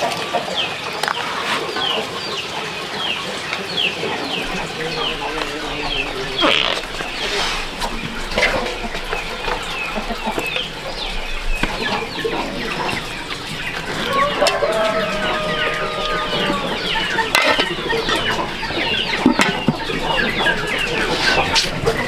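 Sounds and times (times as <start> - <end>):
chickens clucking and cheeping: 0.0 - 22.0.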